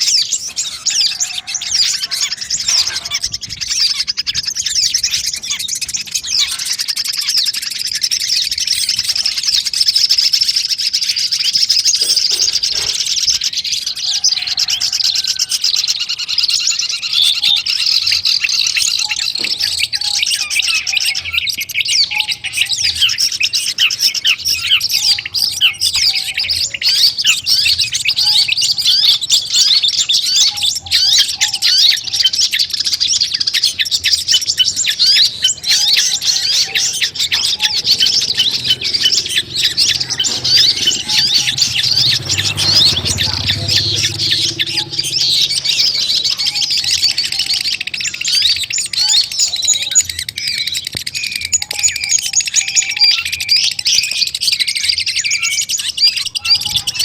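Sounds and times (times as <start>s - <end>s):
bird chirps and squawks: 0.0s - 57.0s.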